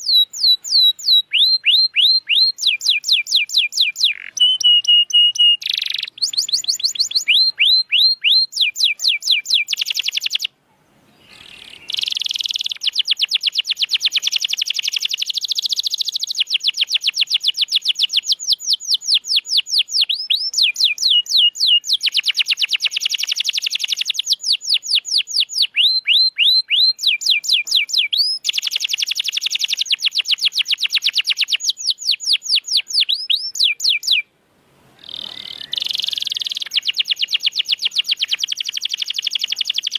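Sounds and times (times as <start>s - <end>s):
canary singing trills: 0.0s - 34.3s, 35.0s - 39.9s.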